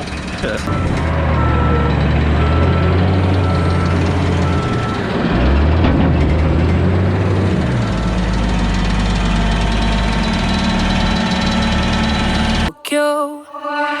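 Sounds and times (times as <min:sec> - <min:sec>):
heavy diesel machinery running: 0:00.0 - 0:12.7
reversing beeper: 0:00.7 - 0:12.7.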